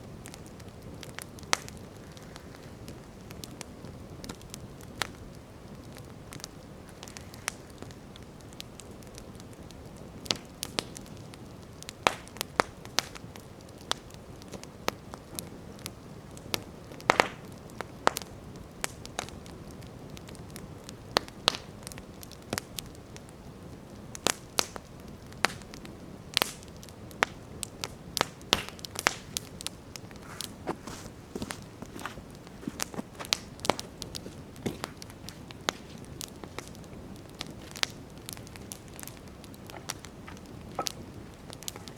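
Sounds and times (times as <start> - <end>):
campfire crackling and popping: 0.0 - 41.9
low rush of flames: 0.0 - 41.9.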